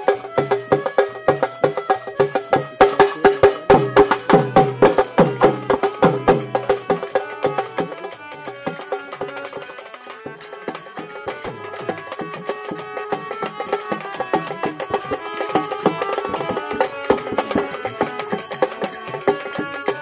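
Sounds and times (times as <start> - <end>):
held note: 0.0 - 20.0
rapid hand drum strokes: 0.0 - 20.0.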